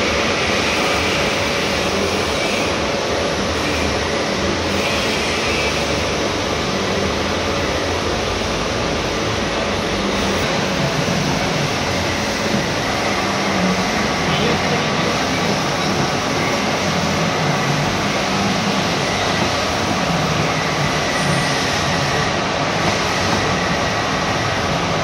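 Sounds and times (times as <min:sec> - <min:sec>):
milling machine drone: 0:00.0 - 0:25.0.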